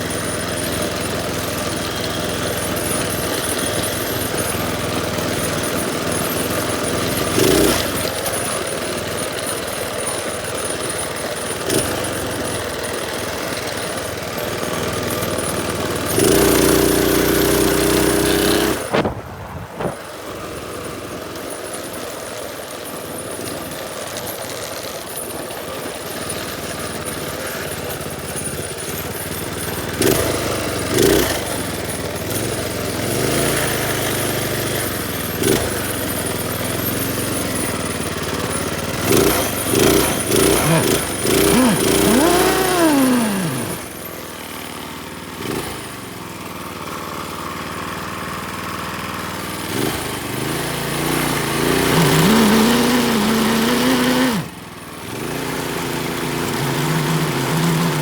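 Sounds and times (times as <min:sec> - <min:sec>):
minibike engine running: 0:00.0 - 0:58.0.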